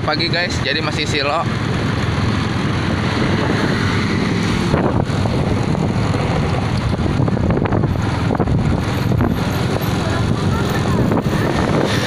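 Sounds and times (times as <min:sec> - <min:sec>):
motorcycle engine: 0:00.0 - 0:12.0
road noise: 0:00.0 - 0:12.0
wind rushing over microphone: 0:00.0 - 0:12.0.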